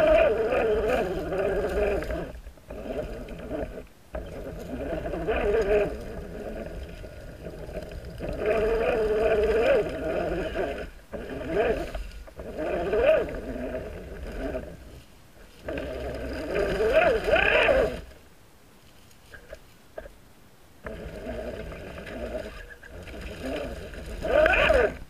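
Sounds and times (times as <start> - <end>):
toy car electric motor whining: 0.0 - 15.0, 15.6 - 18.2, 20.8 - 25.0.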